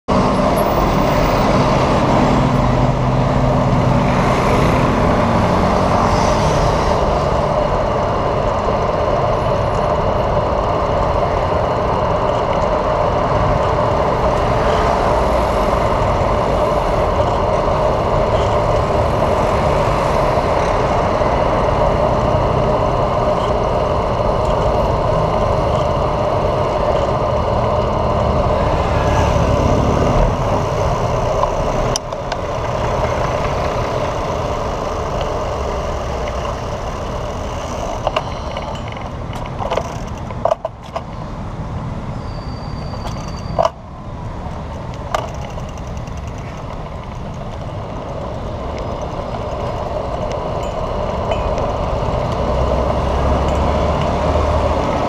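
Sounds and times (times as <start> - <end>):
city road traffic: 0.0 - 55.0
engine low hum: 0.1 - 42.0, 42.6 - 55.0.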